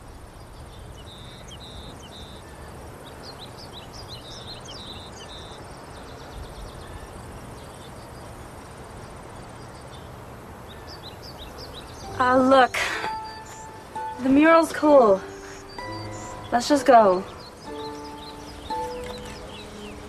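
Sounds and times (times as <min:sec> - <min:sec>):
birds chirping: 0:00.0 - 0:20.0
insects chirping: 0:00.0 - 0:20.0
steady background hiss: 0:00.0 - 0:20.0.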